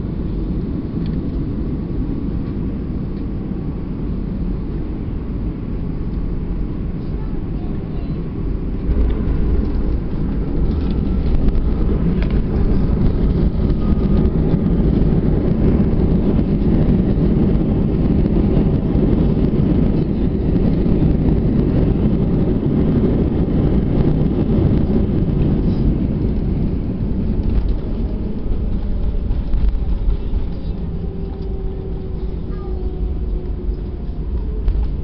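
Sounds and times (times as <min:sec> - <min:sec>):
jet engine noise: 0:00.0 - 0:35.0
wheels rumbling on runway: 0:00.0 - 0:35.0.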